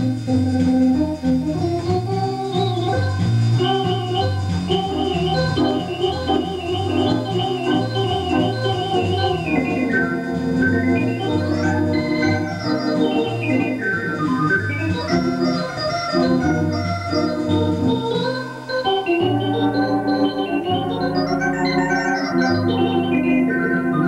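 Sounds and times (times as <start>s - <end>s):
electronic organ playing: 0.0s - 24.0s.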